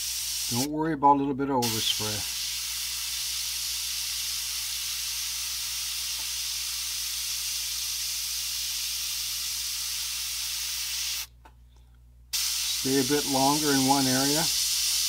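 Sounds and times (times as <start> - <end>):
airbrush spraying hiss: 0.0 - 0.7, 1.6 - 11.3, 12.3 - 15.0.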